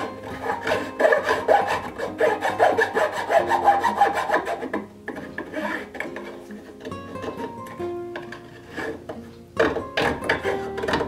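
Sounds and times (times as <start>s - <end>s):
file rasping on wood: 0.0s - 7.5s, 8.2s - 11.0s.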